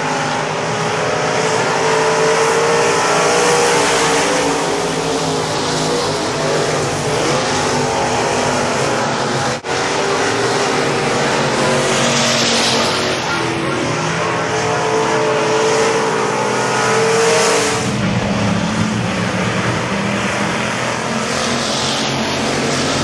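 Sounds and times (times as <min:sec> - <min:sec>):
race car engines revving: 0:00.0 - 0:23.0.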